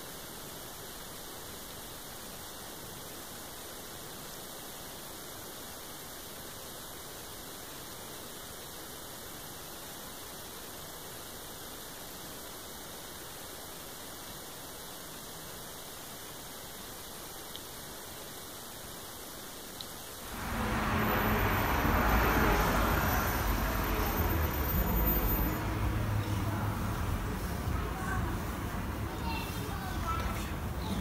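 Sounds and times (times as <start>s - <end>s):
steady static hiss: 0.0s - 31.0s.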